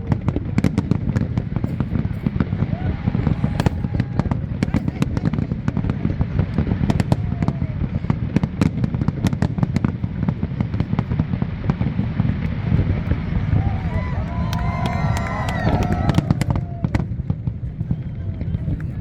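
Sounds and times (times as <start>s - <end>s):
sharp firework cracks: 0.0s - 18.0s.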